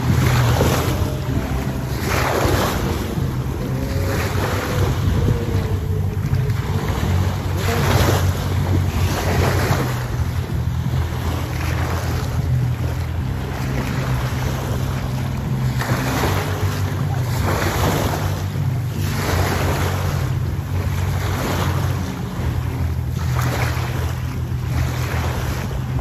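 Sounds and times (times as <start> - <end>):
boat engine drone: 0.0 - 26.0
small waves washing on sand: 0.0 - 26.0.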